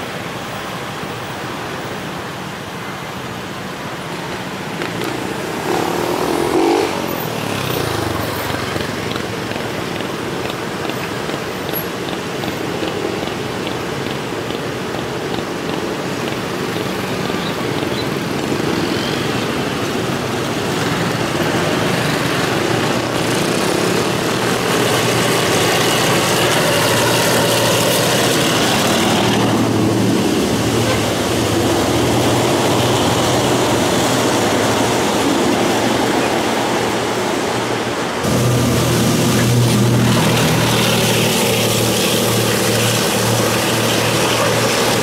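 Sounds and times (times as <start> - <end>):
train carriages rolling past: 4.0 - 45.0
diesel locomotive engine running: 5.0 - 18.8, 20.7 - 45.0.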